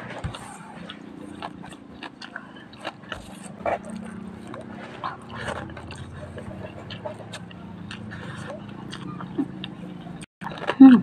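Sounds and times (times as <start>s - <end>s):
person chewing and biting: 0.1s - 10.8s
wet mouth clicks and crunches: 0.3s - 10.8s.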